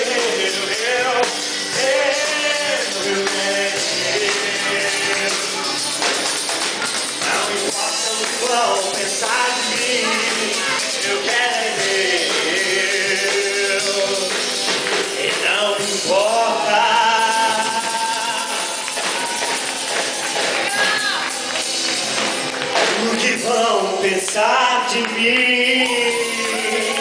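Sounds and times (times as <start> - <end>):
group of voices singing: 0.0 - 21.1, 22.3 - 27.0
shaken jingling percussion: 0.0 - 23.1.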